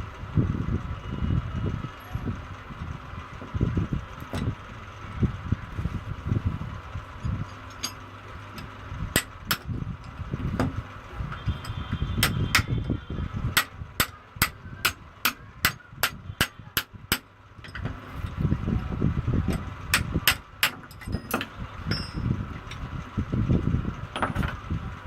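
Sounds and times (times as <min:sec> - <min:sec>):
low rumbling handling noise: 0:00.2 - 0:25.0.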